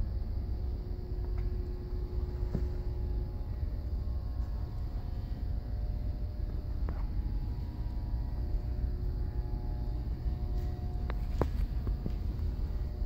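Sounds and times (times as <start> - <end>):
industrial machinery rumble: 0.0 - 13.0.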